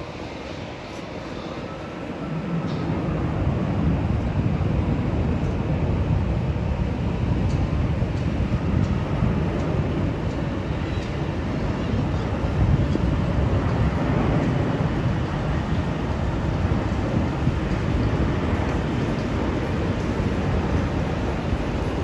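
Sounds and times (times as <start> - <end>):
jet engines deep rumble: 0.0 - 22.0.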